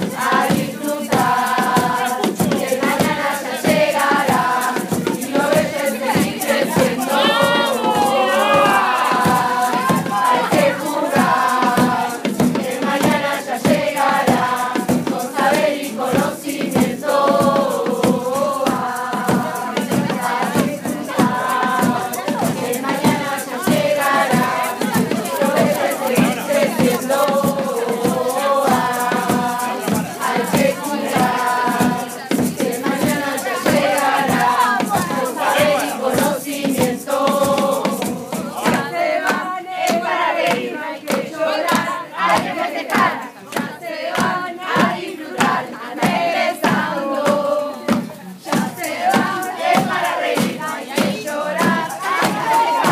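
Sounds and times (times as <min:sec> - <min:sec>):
group singing: 0:00.0 - 0:52.9
steady rhythmic beat: 0:00.0 - 0:52.9.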